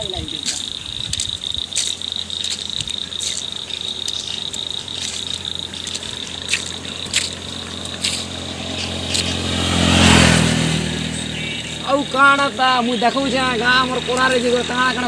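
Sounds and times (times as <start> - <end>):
insects chirring: 0.0 - 15.0
motorcycle engine approaching: 0.0 - 15.0.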